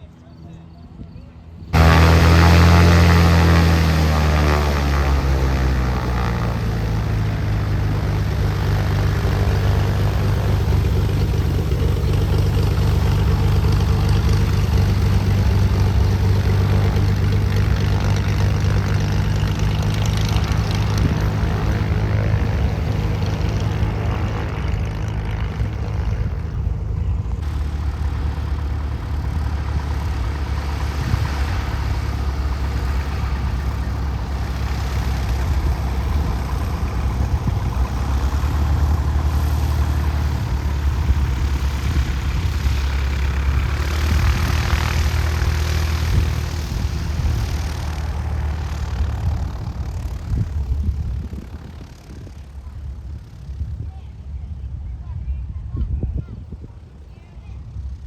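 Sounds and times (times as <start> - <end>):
propeller airplane engine droning: 0.0 - 58.0.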